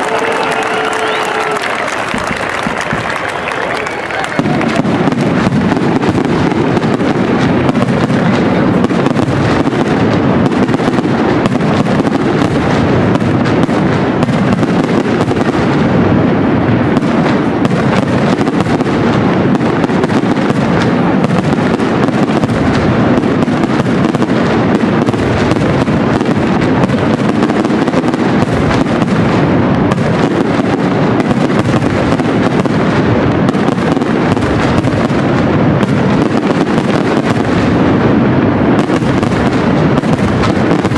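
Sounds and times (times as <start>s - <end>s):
fireworks bursting and crackling: 0.0s - 40.9s.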